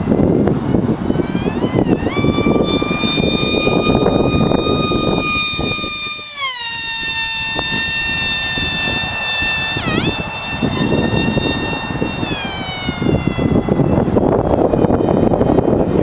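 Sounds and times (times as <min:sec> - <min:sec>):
high-pitched supercharger whine: 0:00.0 - 0:16.0
truck engine and exhaust: 0:00.0 - 0:16.0.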